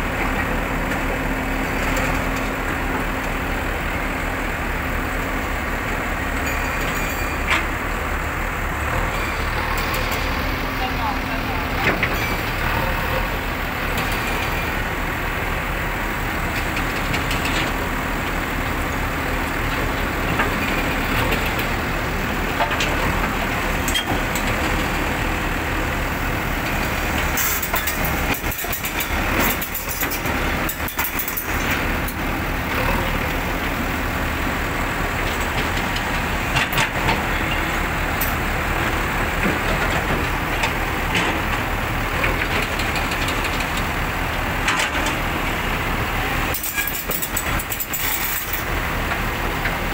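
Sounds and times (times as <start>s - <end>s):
excavator diesel engine under load: 0.0s - 49.9s.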